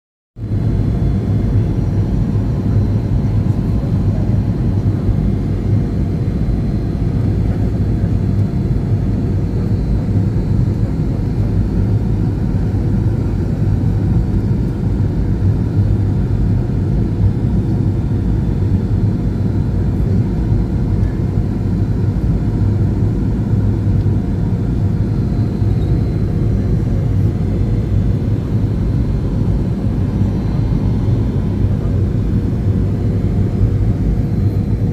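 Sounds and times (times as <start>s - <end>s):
aeroplane low rumble: 0.4s - 34.9s.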